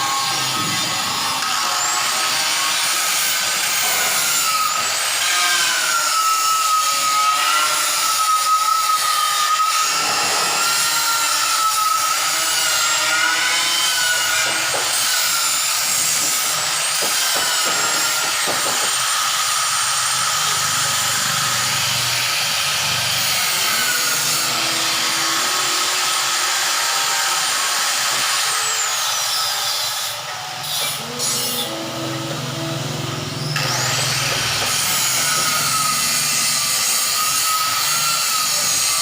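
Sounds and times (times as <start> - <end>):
power tool whining: 0.0 - 39.0.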